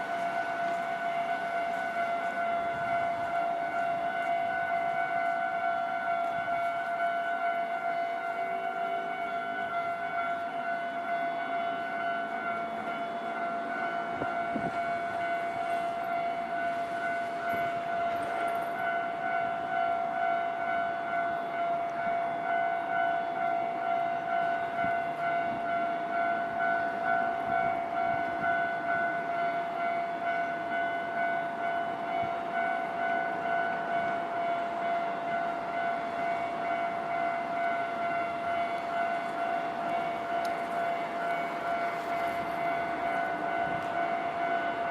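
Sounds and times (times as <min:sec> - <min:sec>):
train rumbling past: 0:00.0 - 0:44.9.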